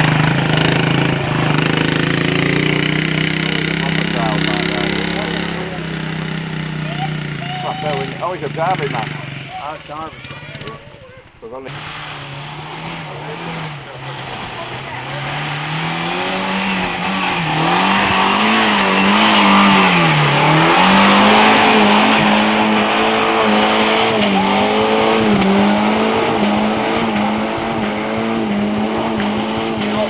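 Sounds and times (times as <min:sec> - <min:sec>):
car engine revving: 0:00.0 - 0:30.0
tyres churning mud: 0:00.0 - 0:30.0.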